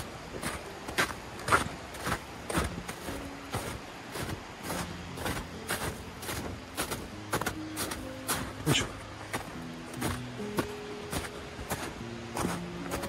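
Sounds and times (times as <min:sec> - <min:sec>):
footsteps crunching on snow: 0:00.0 - 0:13.0.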